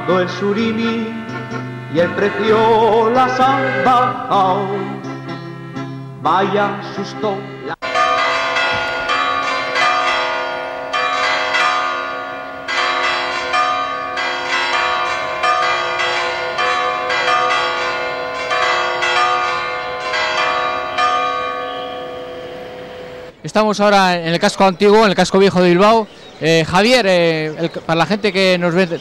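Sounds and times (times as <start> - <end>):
church bells pealing: 0.0 - 23.4.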